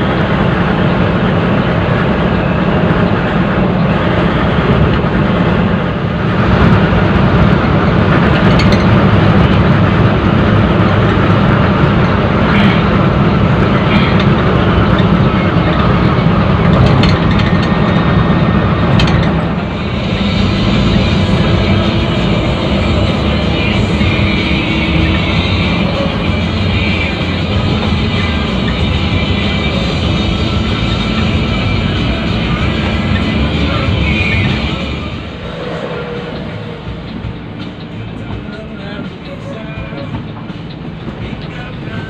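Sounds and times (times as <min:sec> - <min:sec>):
diesel engine drone: 0:00.0 - 0:42.0.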